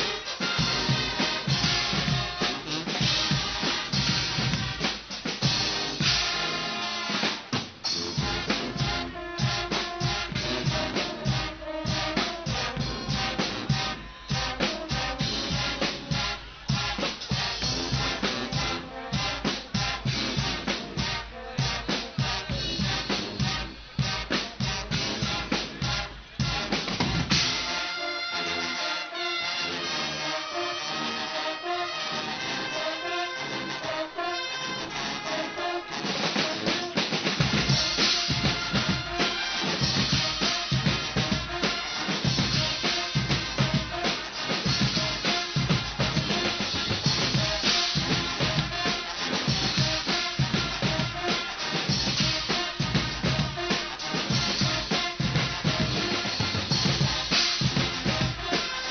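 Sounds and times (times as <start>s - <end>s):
bass and snare drums beat: 0.0s - 58.9s
carnival brass band playing: 0.0s - 58.9s.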